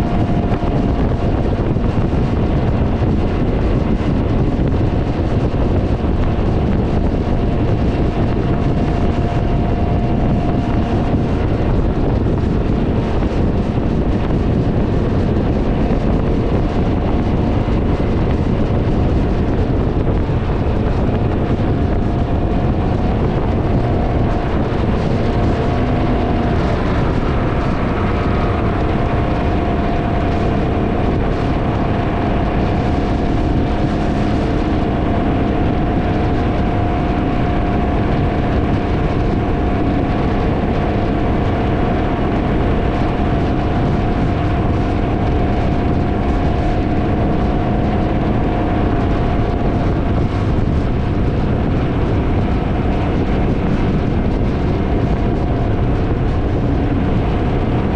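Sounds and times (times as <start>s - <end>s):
motorcycle engine cruising: 0.0s - 57.9s
wind buffeting microphone: 0.0s - 57.9s.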